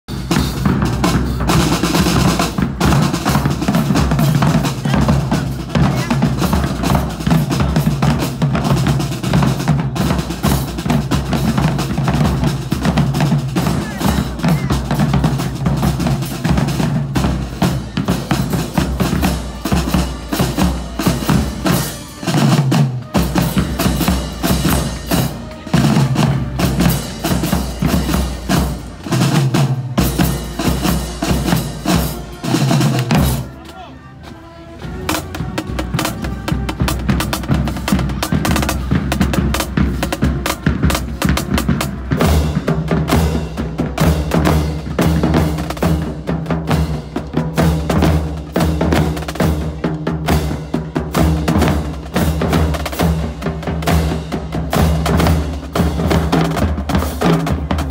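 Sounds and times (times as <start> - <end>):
bass drums: 0.0 - 33.6, 34.8 - 57.9
cymbals: 0.1 - 33.7, 34.8 - 57.9
snare drums: 0.1 - 57.9.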